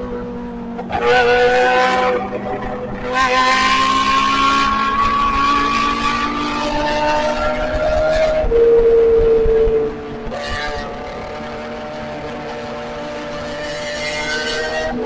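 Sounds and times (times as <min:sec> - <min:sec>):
motorcycle engines revving high: 0:00.0 - 0:15.0.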